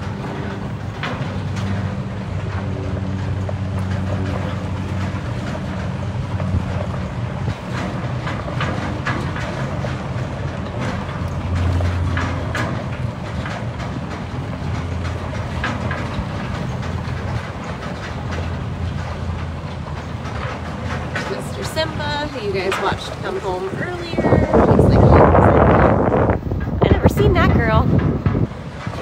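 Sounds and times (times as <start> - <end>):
loose metal rattling and clanking: 0.0 - 29.0
vehicle engine running: 0.0 - 29.0.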